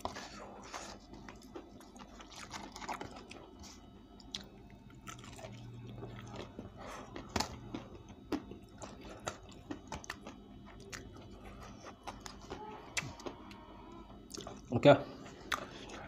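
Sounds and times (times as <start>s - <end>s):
chewing fried chicken: 0.0s - 16.0s.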